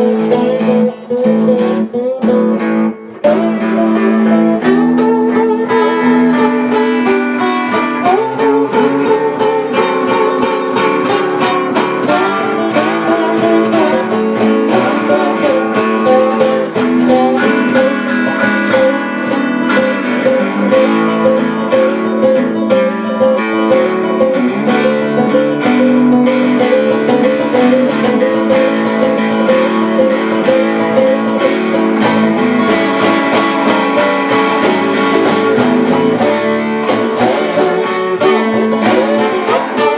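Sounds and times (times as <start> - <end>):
blues guitar playing: 0.0 - 39.9.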